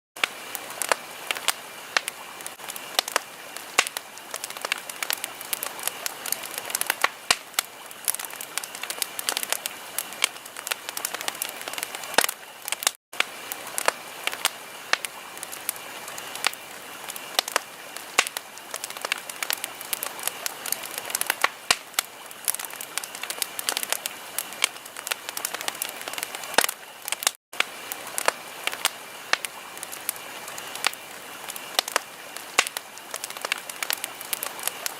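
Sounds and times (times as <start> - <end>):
wood fire crackling: 0.2 - 34.9.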